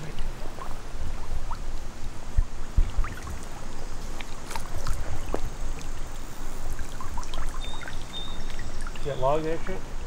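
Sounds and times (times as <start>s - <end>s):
small splashes: 0.0s - 9.2s
water lapping around waders: 0.0s - 9.6s.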